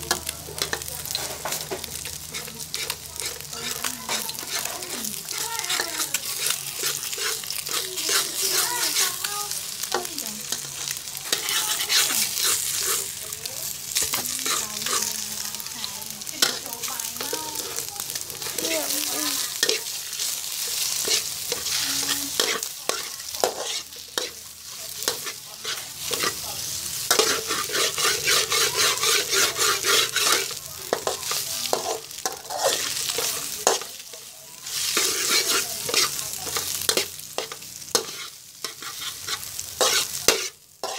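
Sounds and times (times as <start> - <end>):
frying sizzle: 0.0 - 40.9
metal spatula scraping a wok: 0.0 - 40.9.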